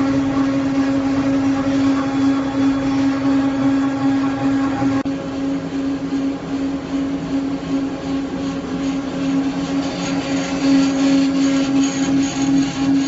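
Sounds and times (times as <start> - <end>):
lathe spindle hum: 0.0 - 13.0.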